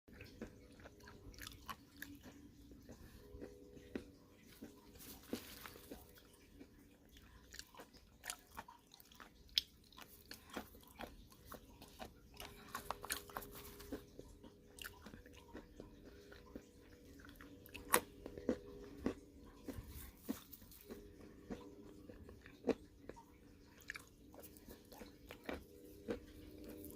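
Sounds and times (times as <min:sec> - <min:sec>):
faint steady hum: 0:00.1 - 0:26.9.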